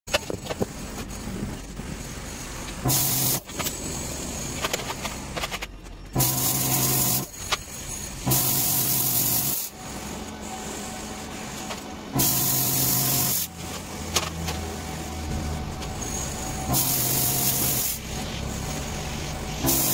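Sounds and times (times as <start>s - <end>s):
plasma cutter hissing and buzzing: 0.8s - 5.4s, 6.2s - 19.9s.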